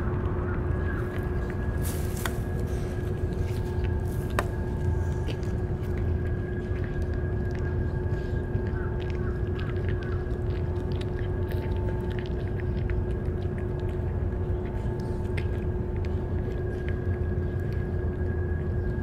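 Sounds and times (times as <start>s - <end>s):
cat chewing and lapping food: 0.0s - 19.0s
faint hum: 0.0s - 19.0s.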